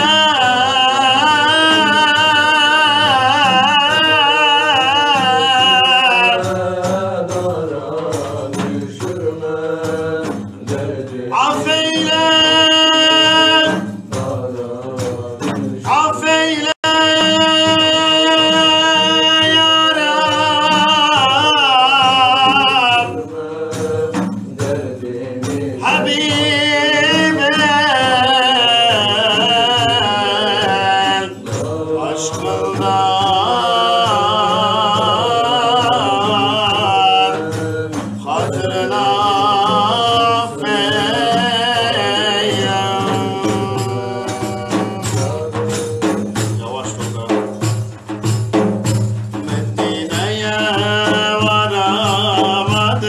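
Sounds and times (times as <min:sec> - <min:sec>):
men singing a hymn: 0:00.0 - 0:48.3, 0:48.9 - 0:53.0
frame drums beating: 0:00.0 - 0:53.0.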